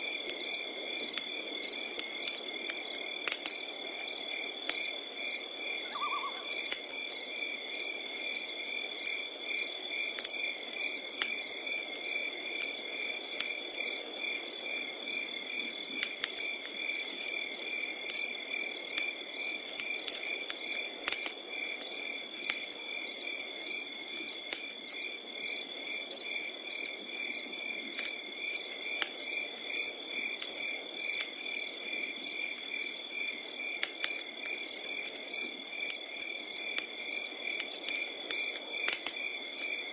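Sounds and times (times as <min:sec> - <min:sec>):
crickets trilling: 0:00.0 - 0:39.9
wood fire crackling: 0:00.0 - 0:39.9.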